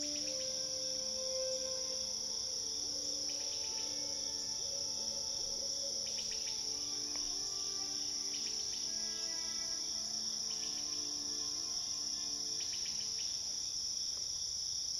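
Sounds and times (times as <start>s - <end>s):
low sustained notes: 0.0s - 14.2s
crickets trilling: 0.0s - 14.9s.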